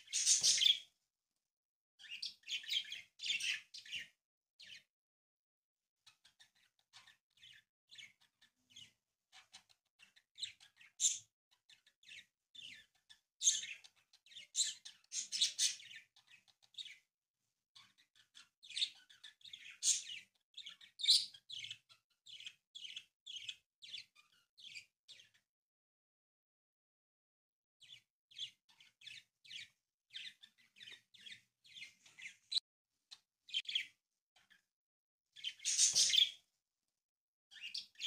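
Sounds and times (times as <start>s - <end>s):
birds chirping: 0.0s - 0.9s, 2.0s - 4.9s, 6.0s - 17.0s, 17.8s - 25.4s, 27.8s - 34.6s, 35.4s - 36.4s, 37.5s - 38.0s.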